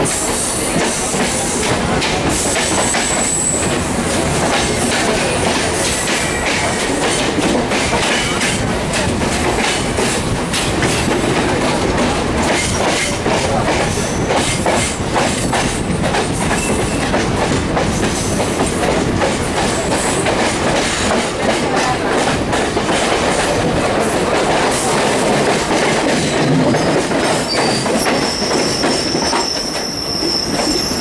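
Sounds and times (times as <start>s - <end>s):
train coaches rumbling past: 0.0s - 31.0s.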